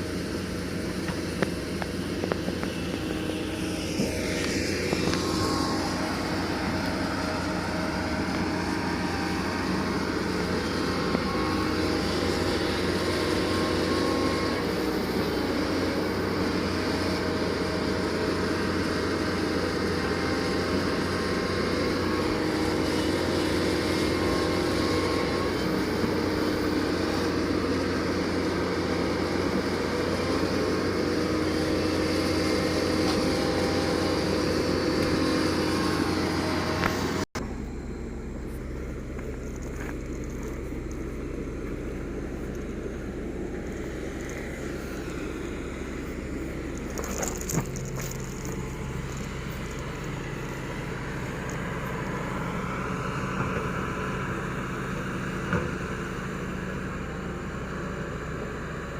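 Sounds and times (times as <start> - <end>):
excavator diesel engine running: 0.0 - 58.9
quiet engine hum: 0.0 - 58.9.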